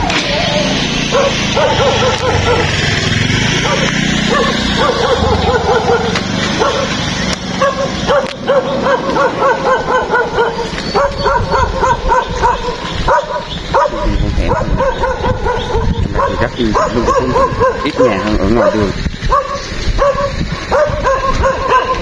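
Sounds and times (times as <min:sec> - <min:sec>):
dog yapping: 0:01.1 - 0:03.0, 0:03.6 - 0:07.0, 0:07.6 - 0:22.0.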